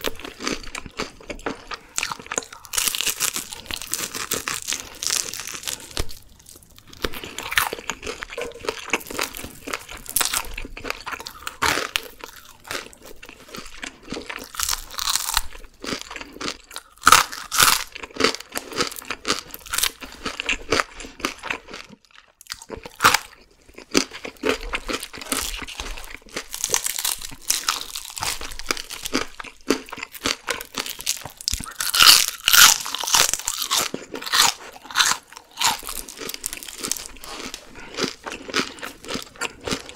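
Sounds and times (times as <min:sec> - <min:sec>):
crunching fried chicken: 0:00.0 - 0:39.9.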